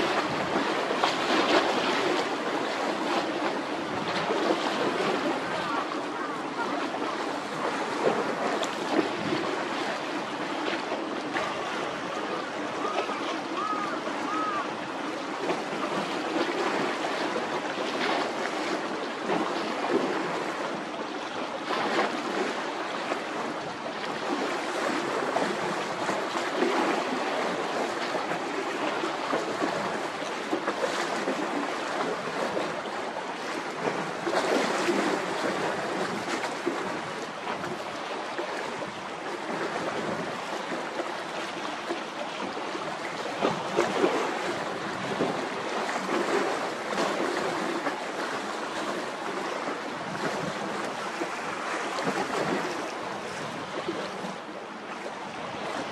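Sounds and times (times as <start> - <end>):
sea waves washing: 0.0 - 55.9.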